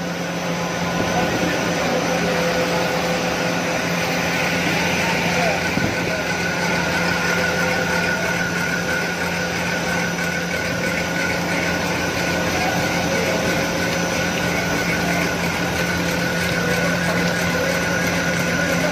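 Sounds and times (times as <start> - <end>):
constant high whine: 0.0 - 18.9
machine hum: 0.0 - 18.9.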